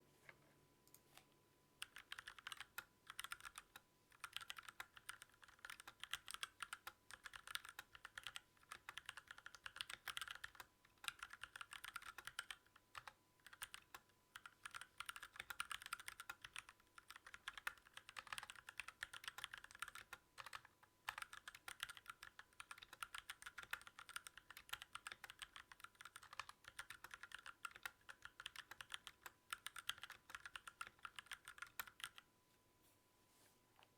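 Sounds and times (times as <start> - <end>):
mechanical keyboard typing: 1.8 - 32.2.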